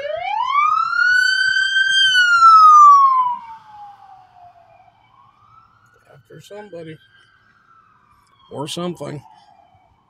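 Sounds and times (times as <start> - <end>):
police siren wail: 0.0 - 10.0.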